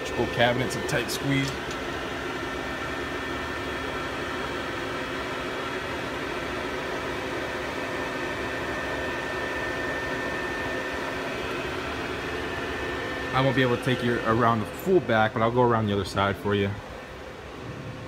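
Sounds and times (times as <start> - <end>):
constant electrical tones: 0.0 - 7.8, 10.9 - 18.0
cooling fans whirring: 0.0 - 18.0.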